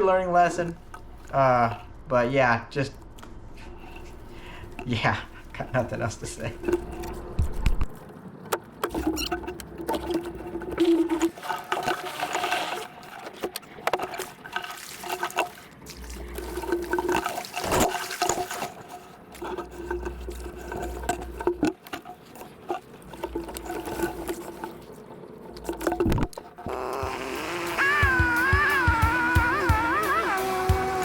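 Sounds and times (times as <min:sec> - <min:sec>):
water sloshing and splashing: 0:00.2 - 0:31.0.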